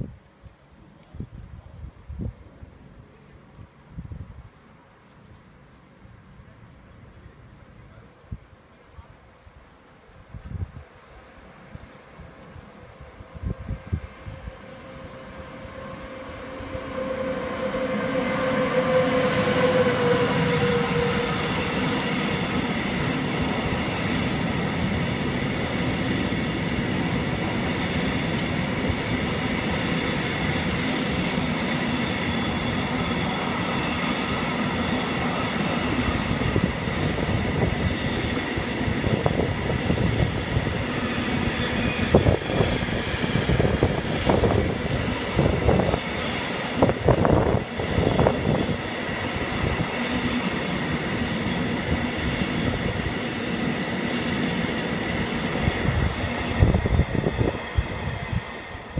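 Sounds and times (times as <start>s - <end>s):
train whine: 0.0s - 58.9s
train wheels rumbling on rails: 9.2s - 58.9s.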